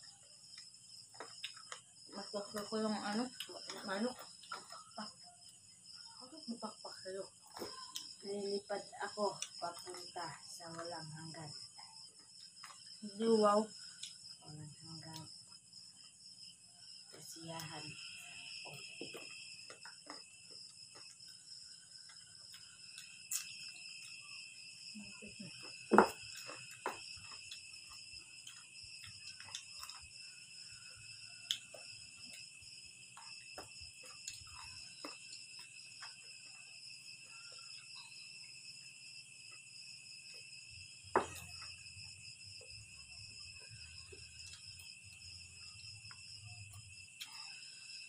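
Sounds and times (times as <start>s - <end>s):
night insect chorus chirring: 0.0s - 48.0s.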